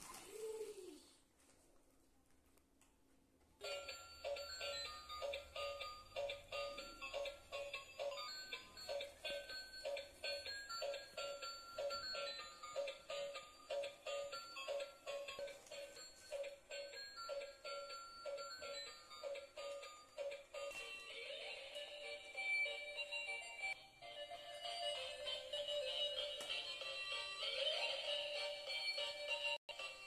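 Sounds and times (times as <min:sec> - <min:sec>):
tinny electronic toy melody: 0:03.6 - 0:30.0.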